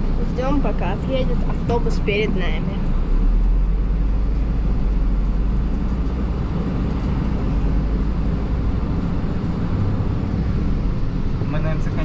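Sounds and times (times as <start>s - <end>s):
low engine and road rumble: 0.0s - 12.0s.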